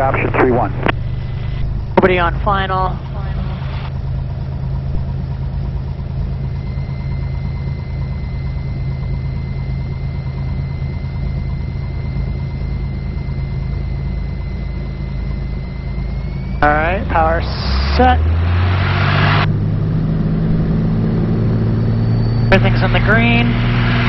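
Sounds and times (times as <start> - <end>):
high-pitched whine: 0.0 - 24.0
propeller plane engine drone: 0.0 - 24.0.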